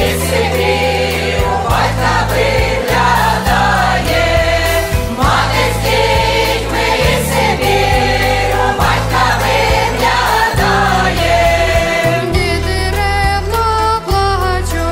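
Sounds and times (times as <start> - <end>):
choir singing a carol: 0.0 - 12.7
instrumental accompaniment: 0.0 - 14.9.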